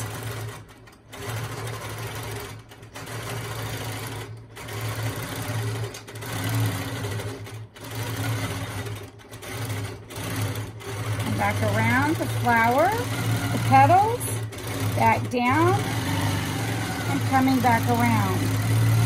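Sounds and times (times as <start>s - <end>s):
quilting machine stitching: 0.0s - 19.0s.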